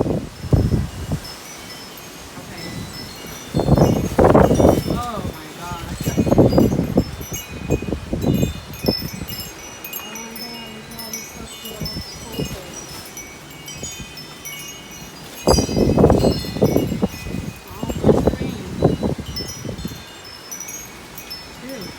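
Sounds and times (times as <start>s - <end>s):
wind buffeting microphone: 0.0s - 21.9s
wind chimes ringing: 0.3s - 21.9s.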